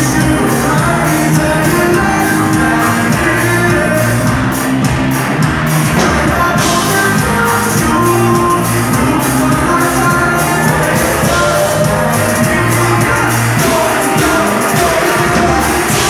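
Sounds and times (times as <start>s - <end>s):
drums steady beat: 0.0s - 16.0s
live band music through pa: 0.0s - 16.0s.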